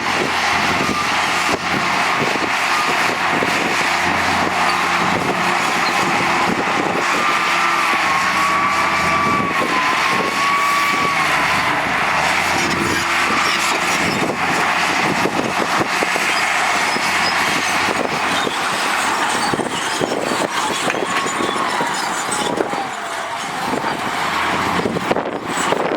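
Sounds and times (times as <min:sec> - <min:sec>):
diesel machinery running: 0:00.0 - 0:25.9
rattling clatter: 0:00.2 - 0:25.9.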